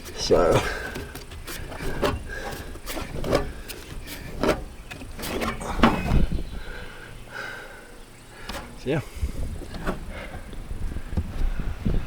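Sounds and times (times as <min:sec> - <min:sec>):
fan knocking and scraping: 0:00.0 - 0:12.0.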